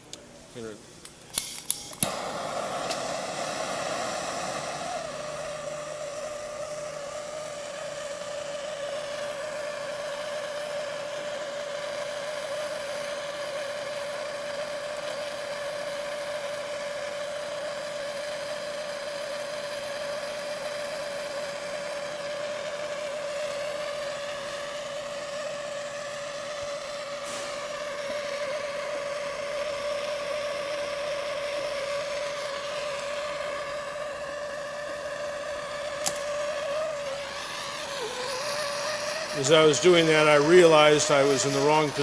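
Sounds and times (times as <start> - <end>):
gas torch flame roaring: 0.0 - 42.0.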